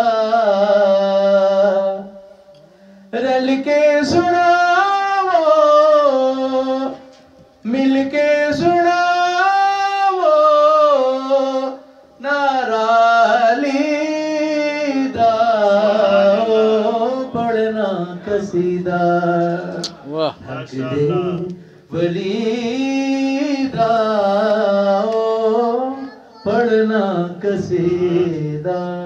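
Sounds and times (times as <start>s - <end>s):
man singing into a microphone: 0.0s - 2.3s, 3.1s - 29.0s.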